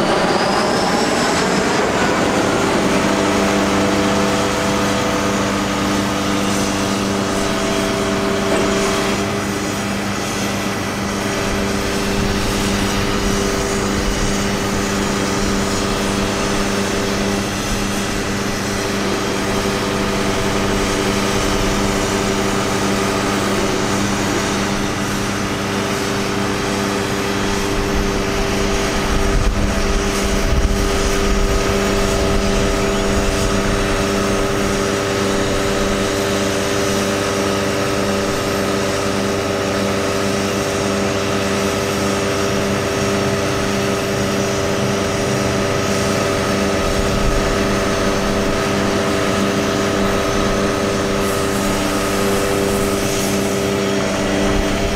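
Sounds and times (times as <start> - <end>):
truck engine running with whine: 0.0 - 54.9.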